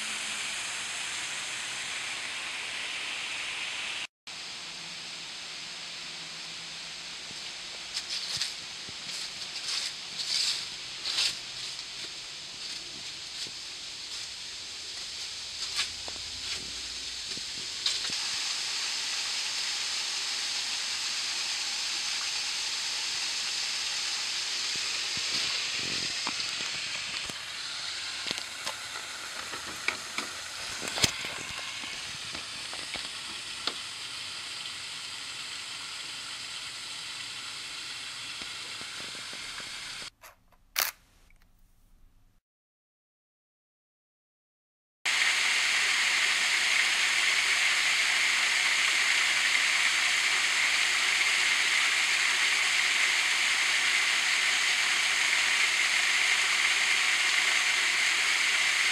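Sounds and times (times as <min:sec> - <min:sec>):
steady rushing hiss: 0:00.0 - 0:40.1, 0:45.1 - 0:58.9.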